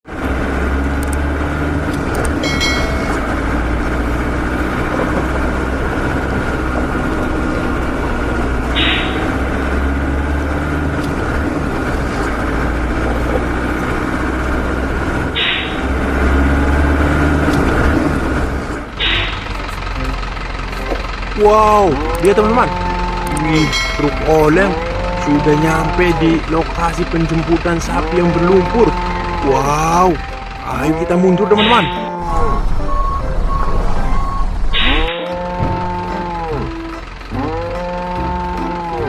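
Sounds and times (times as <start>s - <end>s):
truck engine droning: 0.0s - 39.0s.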